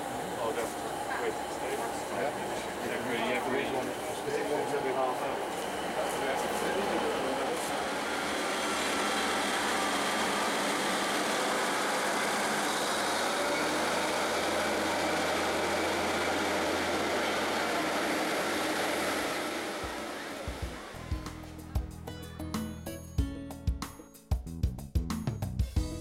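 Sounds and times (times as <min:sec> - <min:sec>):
diesel train running: 0:00.0 - 0:21.8.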